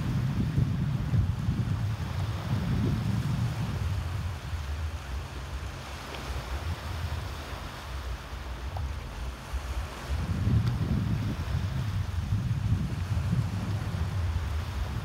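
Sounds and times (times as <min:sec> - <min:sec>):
small waves washing on pebbles: 0:00.0 - 0:15.0
wind buffeting microphone: 0:00.0 - 0:15.0.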